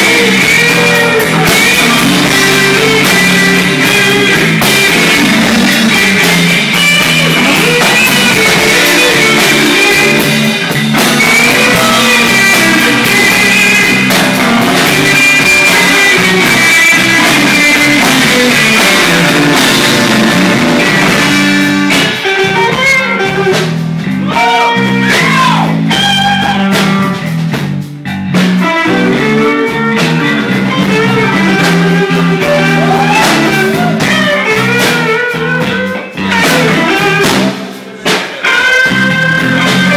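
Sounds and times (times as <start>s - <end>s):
electric guitar bending notes: 0.0s - 39.9s
live band playing slow blues: 0.0s - 39.9s.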